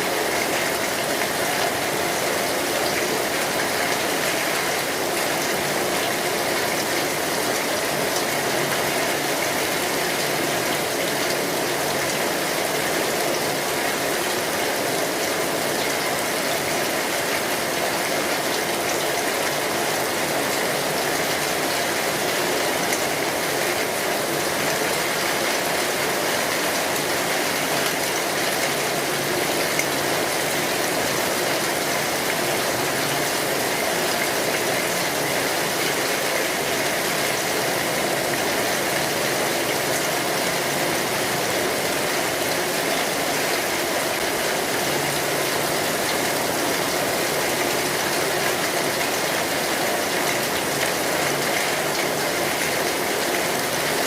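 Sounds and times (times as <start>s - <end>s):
rain on a metal roof: 0.0s - 54.0s.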